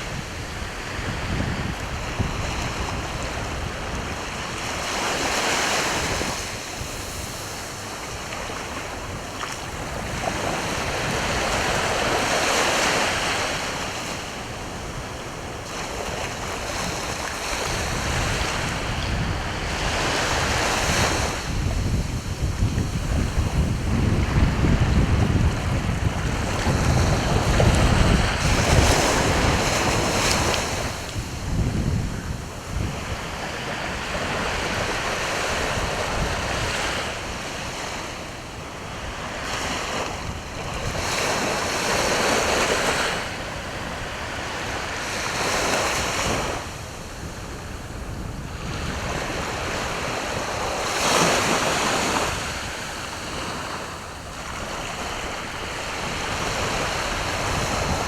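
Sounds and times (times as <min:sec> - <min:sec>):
sea waves breaking on shore: 0:00.0 - 0:58.0
wind rumbling on microphone: 0:00.0 - 0:58.0.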